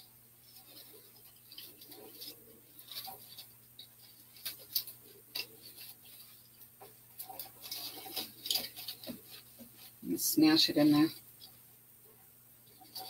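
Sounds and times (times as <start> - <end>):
twigs crackling and rustling: 0.0 - 13.0.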